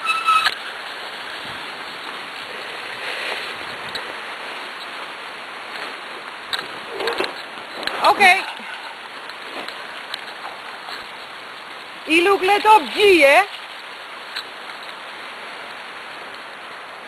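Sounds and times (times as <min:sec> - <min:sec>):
cart wheels rolling on wet track: 0:00.0 - 0:17.0.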